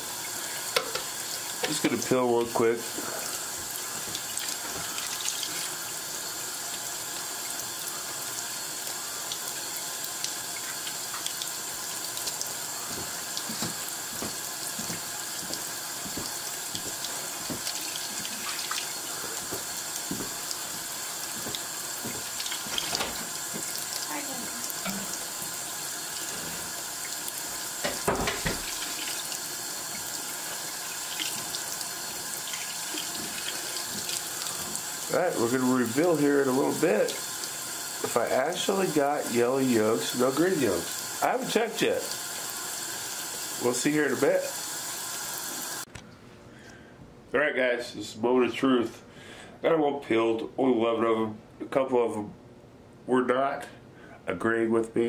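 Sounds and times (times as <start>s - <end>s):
faucet running into sink: 0.0s - 45.8s.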